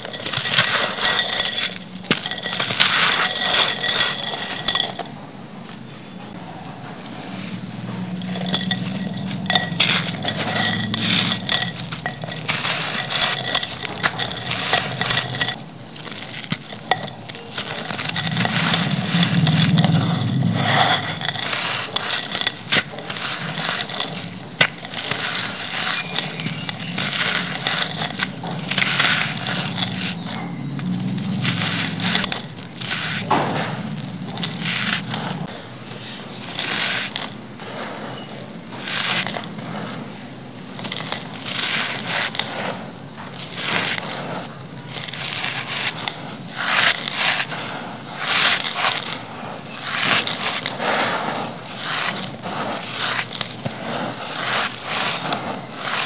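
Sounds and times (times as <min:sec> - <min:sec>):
grit falling into pot: 0:00.0 - 0:05.1, 0:08.1 - 0:56.0
clay soil crunched by hand: 0:08.4 - 0:56.0.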